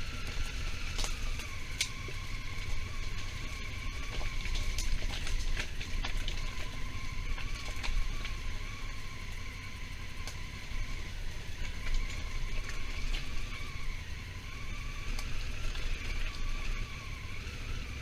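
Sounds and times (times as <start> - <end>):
high whine: 0.0 - 18.0
motorcycle engine: 0.0 - 18.0.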